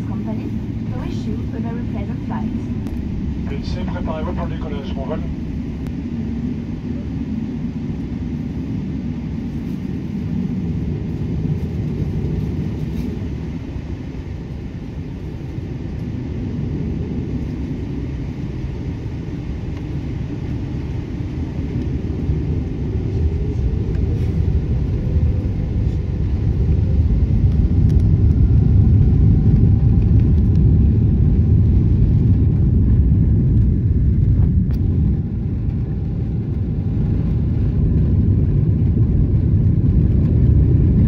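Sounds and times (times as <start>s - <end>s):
jet engines deep rumble: 0.0s - 41.0s.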